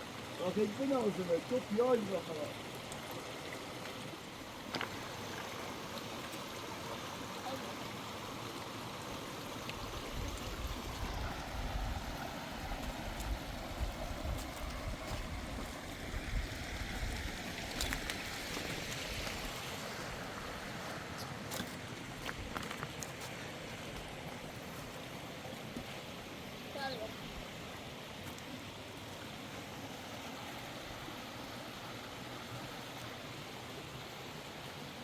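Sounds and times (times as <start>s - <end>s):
rain and running water: 0.0s - 35.0s.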